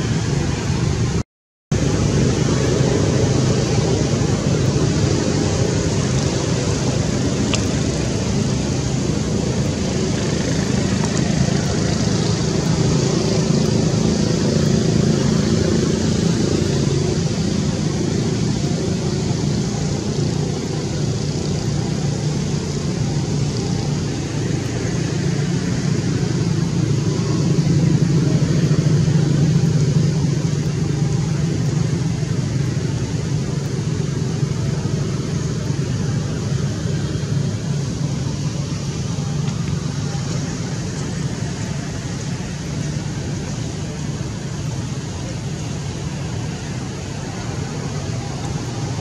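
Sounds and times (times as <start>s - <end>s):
continuous high hiss: 0.0s - 49.0s
low rumble of traffic: 0.0s - 49.0s.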